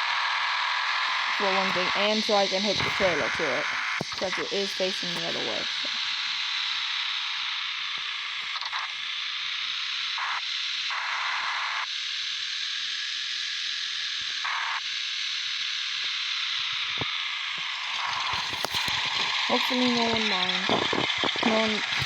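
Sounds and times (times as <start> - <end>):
steady hissing noise: 0.0 - 11.8, 13.3 - 22.0.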